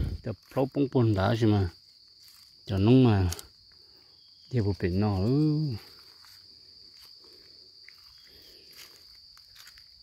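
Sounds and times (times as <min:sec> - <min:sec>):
footsteps on dry leaves: 0:00.0 - 0:10.0
insect drone: 0:00.0 - 0:10.0.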